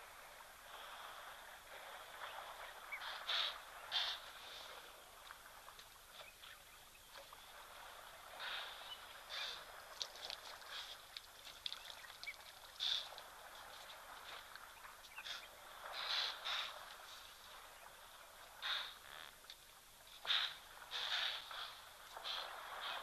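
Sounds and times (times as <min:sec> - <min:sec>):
lioness lapping water: 0:00.0 - 0:23.0.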